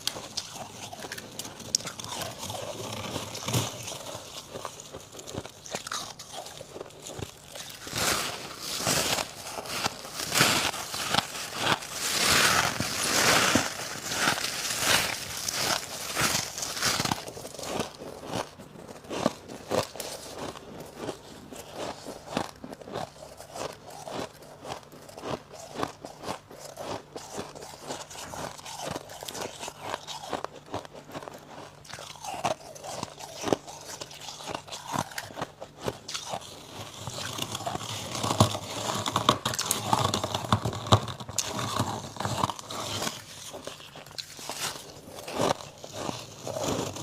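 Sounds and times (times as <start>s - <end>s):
frost crunching in mouth: 0.0s - 47.0s.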